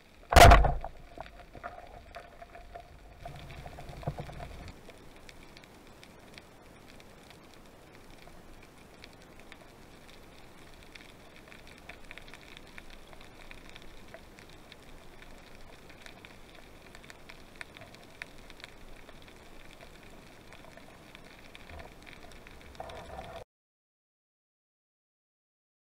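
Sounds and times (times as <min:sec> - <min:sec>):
faint underwater clicks: 0:00.0 - 0:23.4
rustle: 0:00.0 - 0:23.4.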